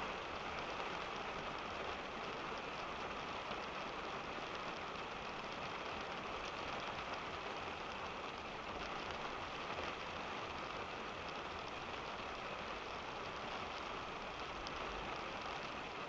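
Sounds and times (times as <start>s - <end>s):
rain pattering on car roof: 0.0s - 16.0s.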